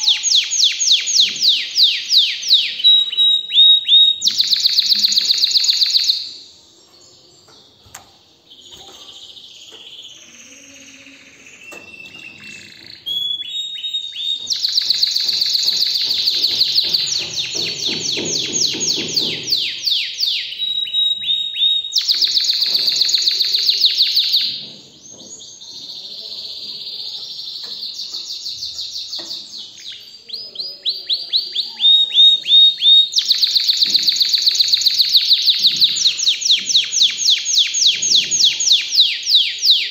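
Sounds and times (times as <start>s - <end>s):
canary singing and trilling: 0.0s - 39.9s.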